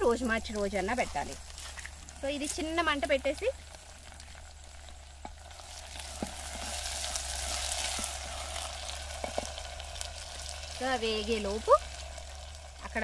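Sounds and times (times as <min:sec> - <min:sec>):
okra sizzling in oil: 0:00.0 - 0:13.0.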